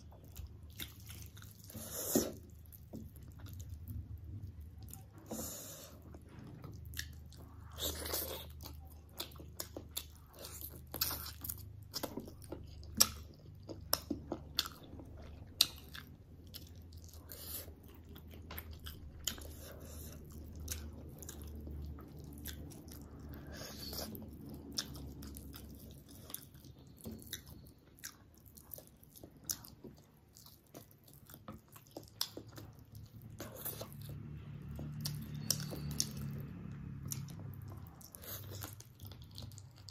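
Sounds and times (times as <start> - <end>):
chewing and mouth smacking: 0.0 - 39.9.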